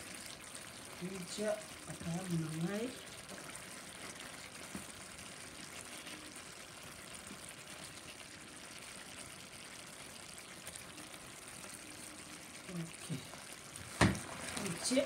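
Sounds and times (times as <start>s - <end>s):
sauce simmering in a pan: 0.0s - 15.0s.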